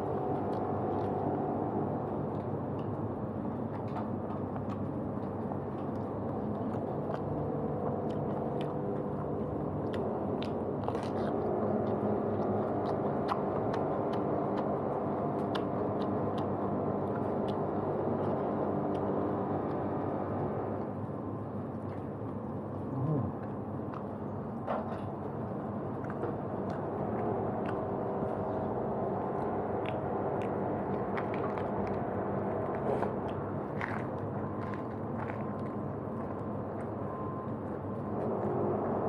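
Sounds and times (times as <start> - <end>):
background hum: 0.0 - 39.0
person chewing food: 0.0 - 39.0.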